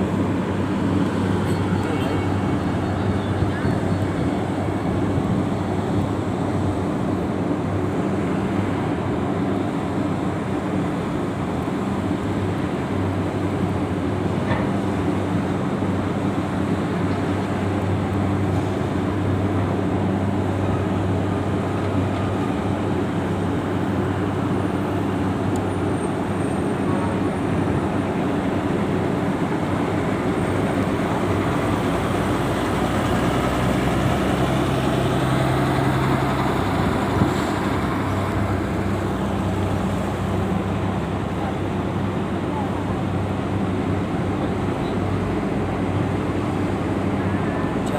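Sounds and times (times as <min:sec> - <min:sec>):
heavy vehicle engines droning: 0:00.0 - 0:47.9.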